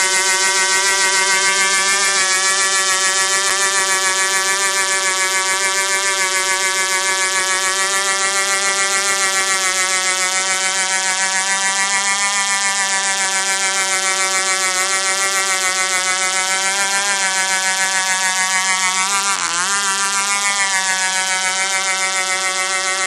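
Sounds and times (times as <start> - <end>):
model helicopter engine buzzing: 0.0 - 23.0.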